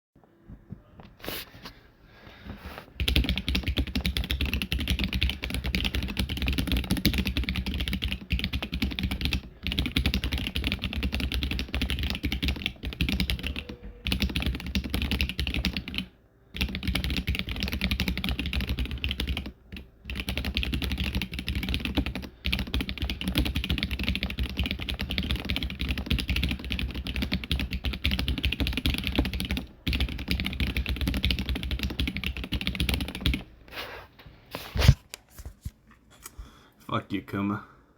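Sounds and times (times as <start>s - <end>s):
fast typing on mechanical keyboard: 3.0s - 33.5s.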